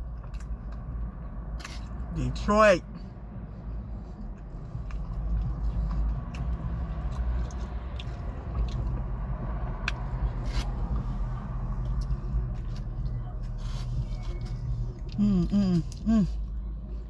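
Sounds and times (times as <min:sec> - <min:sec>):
person chewing food: 0:00.0 - 0:02.0, 0:03.5 - 0:17.0
steady low rumble: 0:00.0 - 0:17.0.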